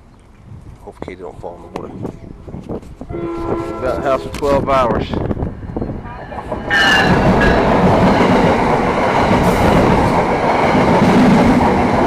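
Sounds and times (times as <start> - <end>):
train passing: 1.2 - 12.0.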